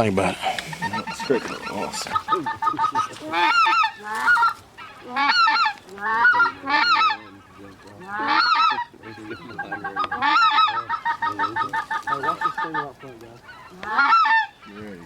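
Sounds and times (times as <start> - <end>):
background geese calling: 0.0 - 15.0
geese honking loudly: 0.0 - 15.0.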